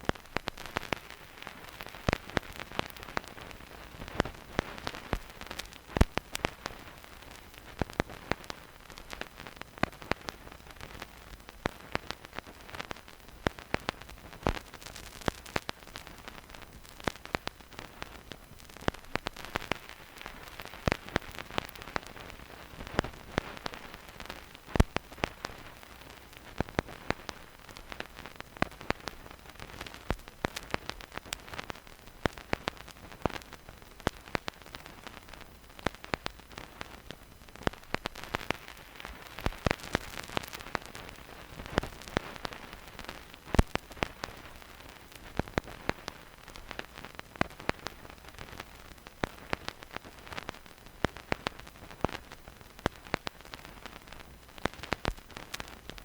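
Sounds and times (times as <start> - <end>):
vinyl clicks and pops: 0.0 - 56.0
vinyl record hiss: 0.0 - 56.0.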